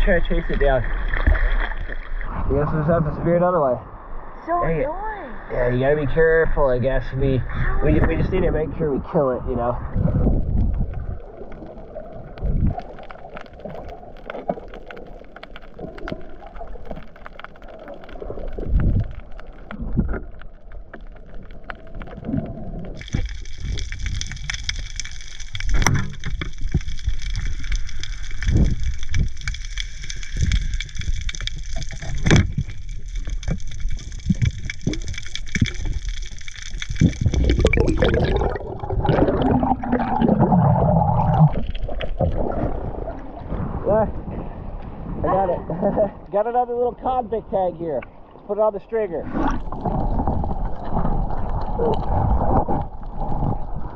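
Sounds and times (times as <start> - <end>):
water gurgling underwater: 0.0 - 4.6, 6.1 - 46.3, 49.2 - 53.9.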